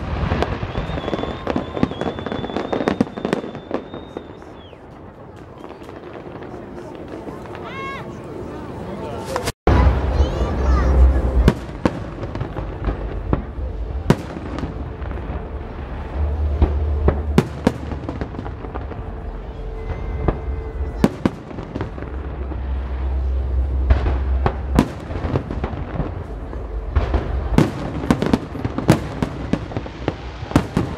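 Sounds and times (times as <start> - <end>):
fireworks bangs: 0.0 - 30.9
fireworks rumble and crackle: 0.0 - 30.9.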